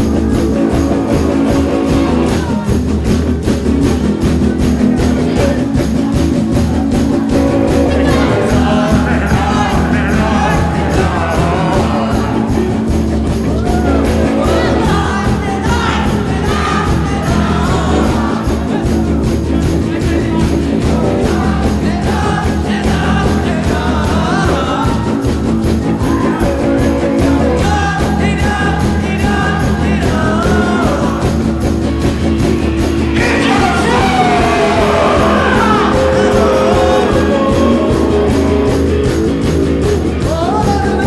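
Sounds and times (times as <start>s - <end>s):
person singing: 0.0s - 3.0s, 4.8s - 31.6s, 32.3s - 41.0s
drums: 0.0s - 41.0s
electric guitar: 0.0s - 41.0s.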